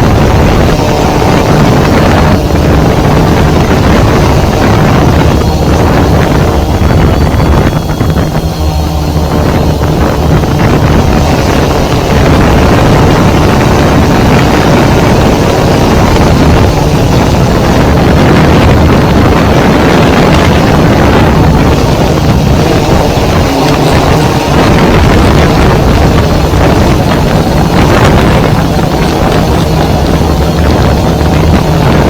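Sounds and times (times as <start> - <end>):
drone motors and propellers: 0.0 - 32.0
wind buffeting microphone: 0.0 - 32.0.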